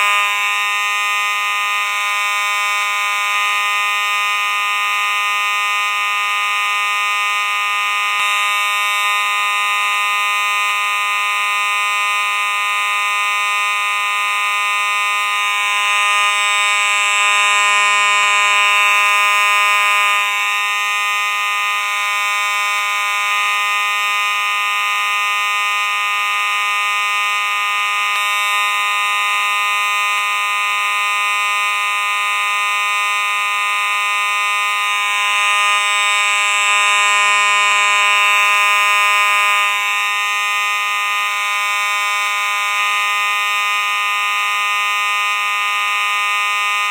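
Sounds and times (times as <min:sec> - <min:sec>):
fire alarm tone: 0:00.0 - 0:46.9.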